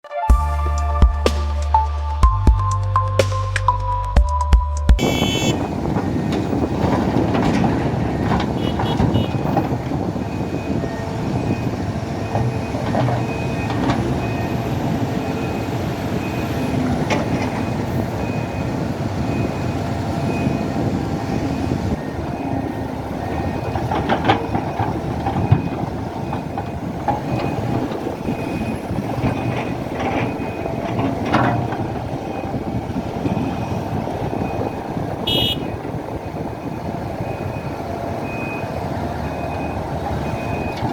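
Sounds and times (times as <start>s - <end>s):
excavator diesel engine running: 5.0s - 40.9s
reversing alarm beeping: 5.0s - 40.9s.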